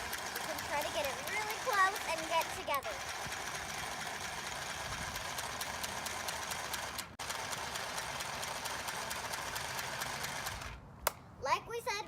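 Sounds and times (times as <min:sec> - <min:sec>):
sewing machine stitching: 0:00.0 - 0:10.7.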